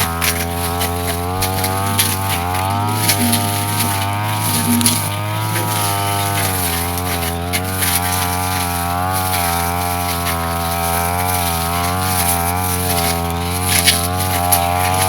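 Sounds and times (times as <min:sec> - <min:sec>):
brush cutter engine cutting grass: 0:00.0 - 0:15.0.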